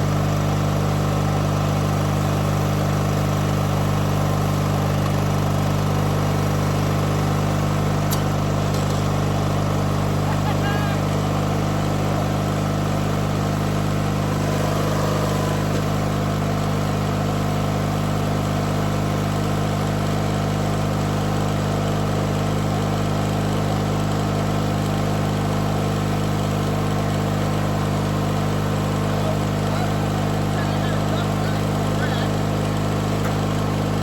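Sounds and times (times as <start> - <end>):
riding mower engine idling: 0.0 - 34.0.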